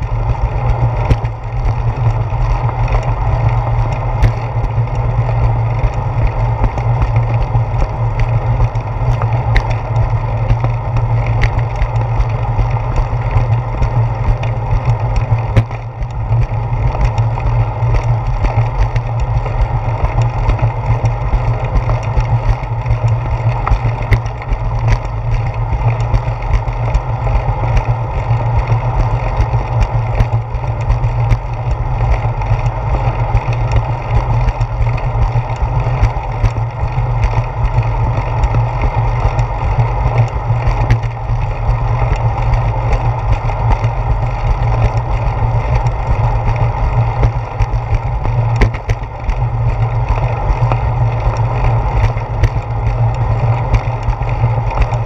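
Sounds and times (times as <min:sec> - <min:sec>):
bicycle rolling on concrete: 0:00.0 - 0:55.0
small clicks and rattles: 0:00.0 - 0:55.0
wind rumble: 0:00.0 - 0:55.0.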